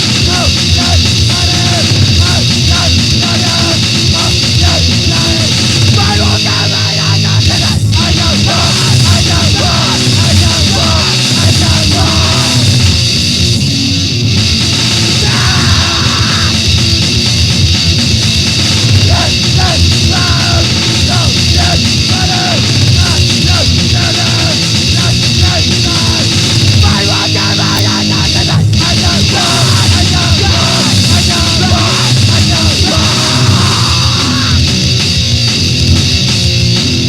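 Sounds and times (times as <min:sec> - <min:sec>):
loud fast grindcore band music: 0:00.0 - 0:37.0.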